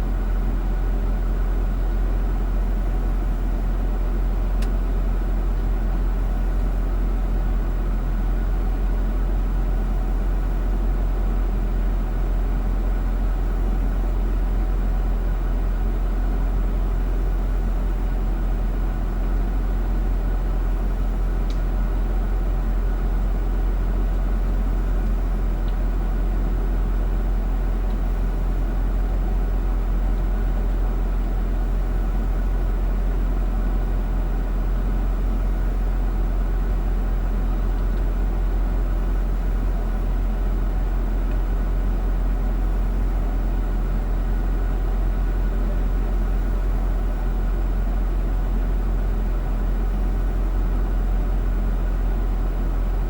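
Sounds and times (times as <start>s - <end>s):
car engine with low rumble: 0.0s - 53.0s.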